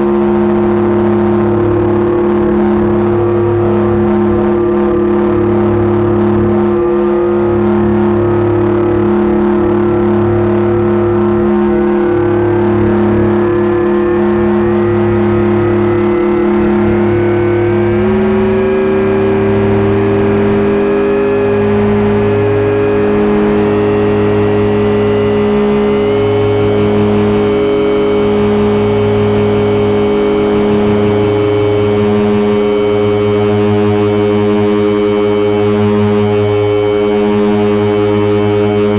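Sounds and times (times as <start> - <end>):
electronic held tone: 0.0 - 38.9
pulsing low tones: 0.0 - 38.9.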